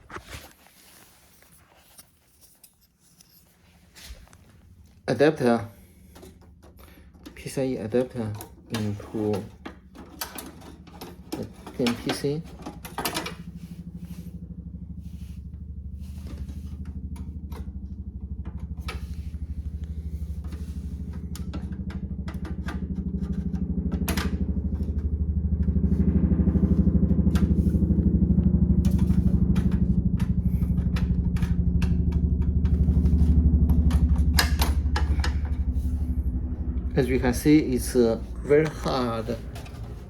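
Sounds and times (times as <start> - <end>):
low machine hum: 3.3 - 40.0.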